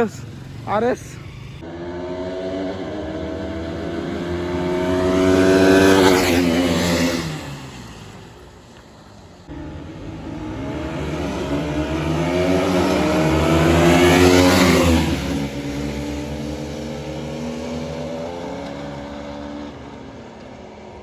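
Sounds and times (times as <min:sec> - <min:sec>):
motorcycles accelerating past: 0:00.0 - 0:21.0.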